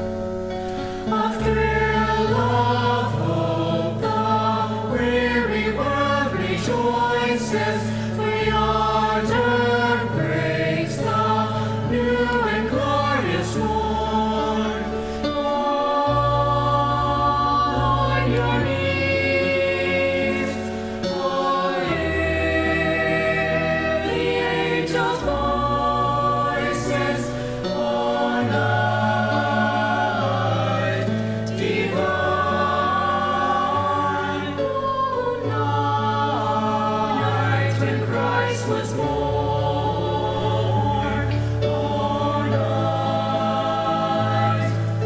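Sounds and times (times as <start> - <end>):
choir singing a carol: 0.0 - 45.0.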